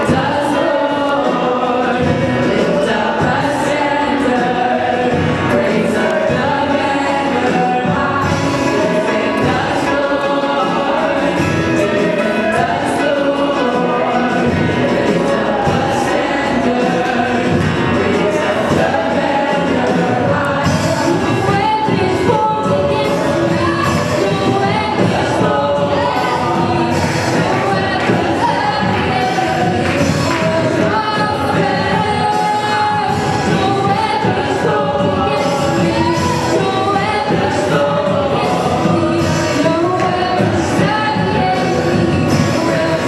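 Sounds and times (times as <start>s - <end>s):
choir singing gospel song: 0.0s - 43.0s
instrumental accompaniment: 0.0s - 43.0s.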